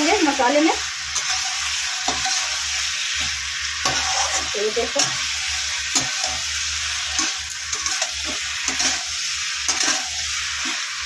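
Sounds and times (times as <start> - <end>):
food sizzling in hot oil: 0.0 - 11.0
metal spatula scraping pan: 1.1 - 10.9.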